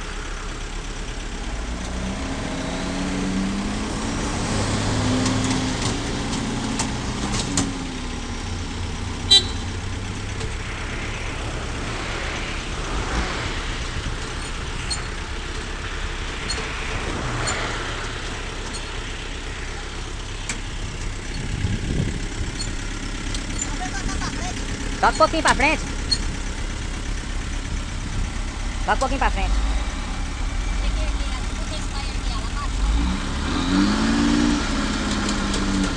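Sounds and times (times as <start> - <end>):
heavy vehicle engine running: 0.0 - 35.9.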